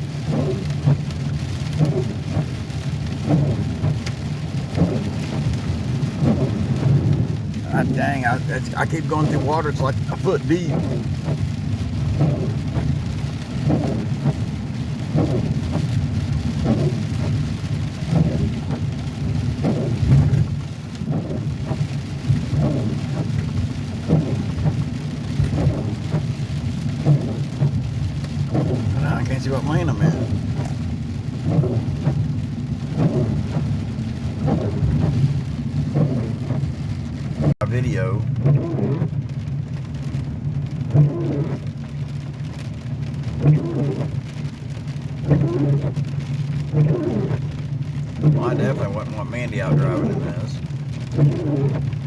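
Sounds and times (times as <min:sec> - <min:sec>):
heavy rain pelting a car: 0:00.0 - 0:52.0
road and engine rumble: 0:00.0 - 0:52.0.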